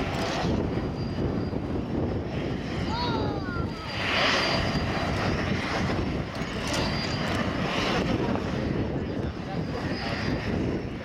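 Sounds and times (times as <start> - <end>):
jet engine rumble and whine: 0.0 - 11.0.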